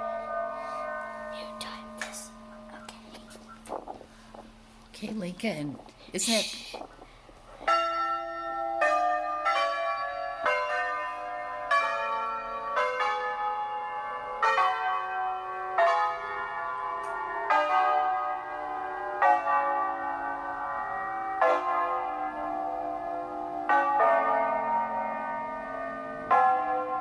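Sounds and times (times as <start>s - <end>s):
tower bells ringing: 0.0s - 2.9s, 7.6s - 27.0s.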